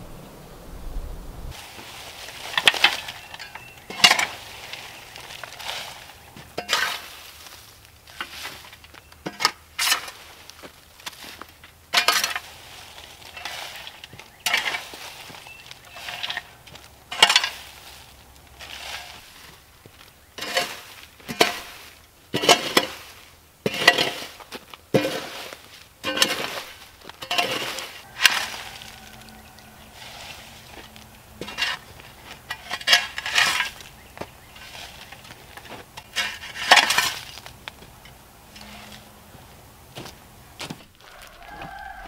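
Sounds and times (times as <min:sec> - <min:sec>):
shovel scraping hard dirt: 0:01.4 - 0:19.7, 0:20.4 - 0:39.2
wood scraps tossed into wheelbarrow: 0:01.5 - 0:39.1.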